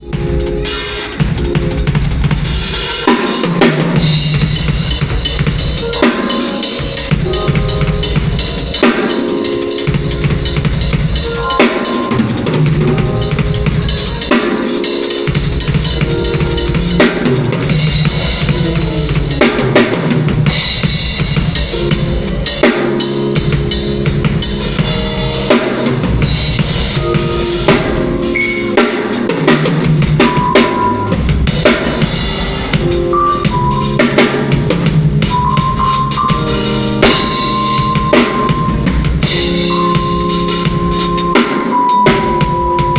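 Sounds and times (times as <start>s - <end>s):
drum kit: 0.0s - 42.9s
live band playing: 0.0s - 42.9s.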